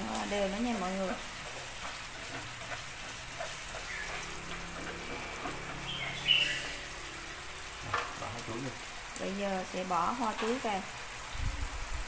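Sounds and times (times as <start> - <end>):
snails simmering in frying pan: 0.0 - 12.0.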